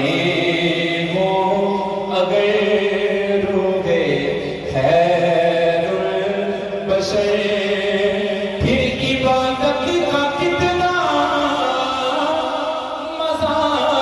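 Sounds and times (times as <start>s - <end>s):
man singing a chant: 0.0s - 14.0s.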